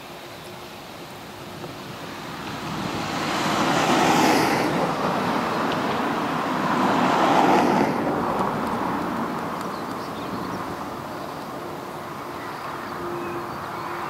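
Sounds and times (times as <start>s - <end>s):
jet engines roaring: 0.6s - 14.0s.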